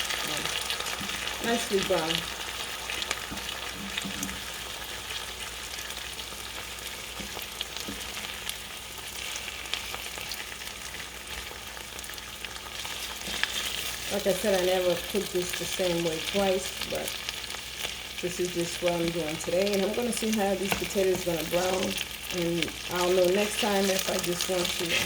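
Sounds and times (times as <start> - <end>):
potatoes sizzling in oil: 0.0 - 25.0.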